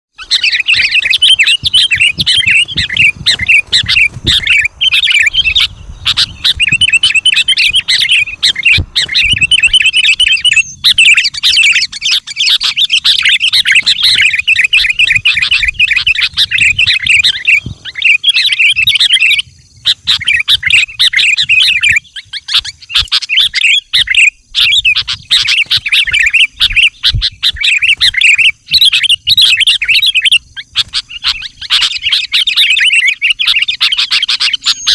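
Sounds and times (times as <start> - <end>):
bird singing and chattering: 0.1 - 34.9.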